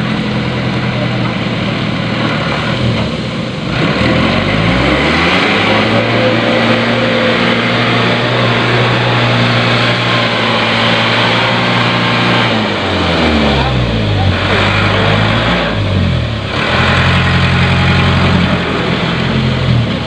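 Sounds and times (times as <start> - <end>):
truck engine revving under load: 0.0 - 20.0.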